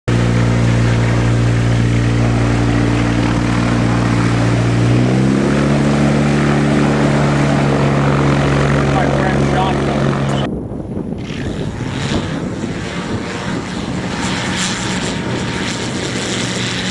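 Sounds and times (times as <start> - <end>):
light aircraft engine and propeller: 0.0 - 16.9.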